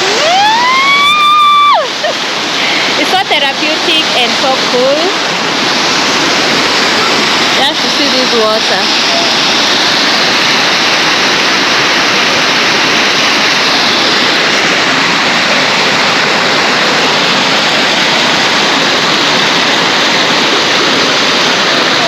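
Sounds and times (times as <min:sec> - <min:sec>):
waterfall pouring: 0:00.0 - 0:22.0.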